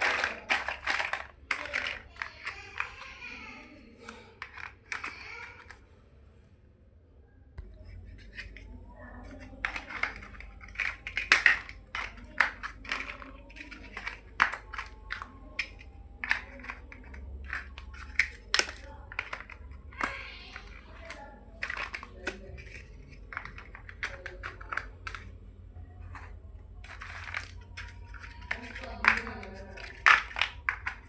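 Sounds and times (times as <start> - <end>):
plastic blocks clicking together: 0.0 - 3.3, 4.1 - 5.8, 8.1 - 31.0.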